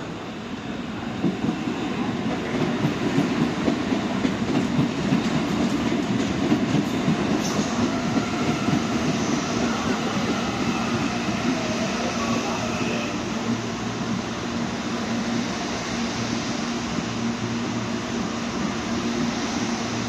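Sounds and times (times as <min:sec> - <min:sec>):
electric train rumbling past: 0:00.0 - 0:20.0.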